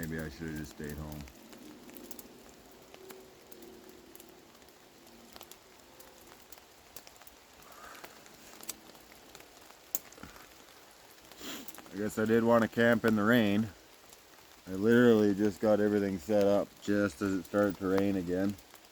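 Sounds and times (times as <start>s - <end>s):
light rain hiss: 0.0s - 18.9s
ticks of single raindrops: 0.0s - 18.9s.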